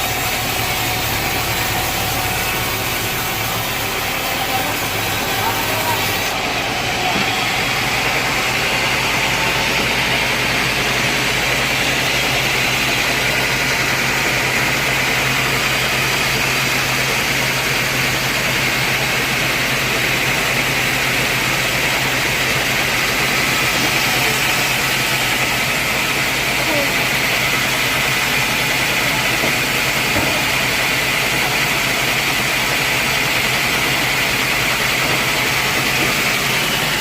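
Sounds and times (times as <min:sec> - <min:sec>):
high machine whine: 0:00.0 - 0:37.0
sawmill machinery hum: 0:00.0 - 0:37.0.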